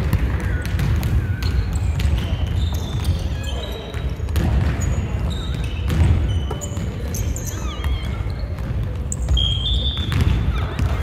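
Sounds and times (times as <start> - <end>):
basketball bouncing on hardwood floor: 0.0 - 9.4, 10.0 - 11.0
sneakers squeaking on court: 0.0 - 11.0.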